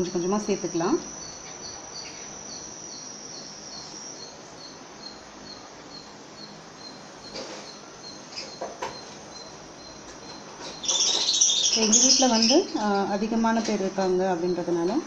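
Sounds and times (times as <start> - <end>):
high-pitched buzz: 0.0 - 15.0
insect chirping: 0.0 - 15.0.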